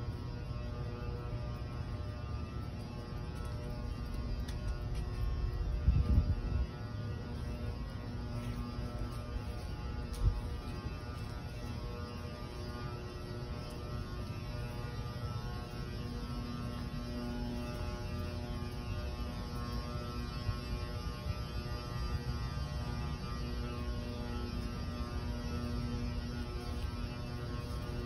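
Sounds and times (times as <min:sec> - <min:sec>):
low building hum: 0:00.0 - 0:28.0.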